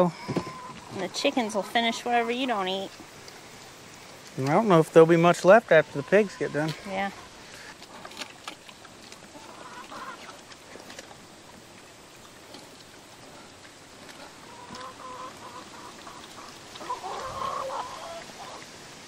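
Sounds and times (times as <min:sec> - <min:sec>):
chickens clucking: 0:00.0 - 0:18.7.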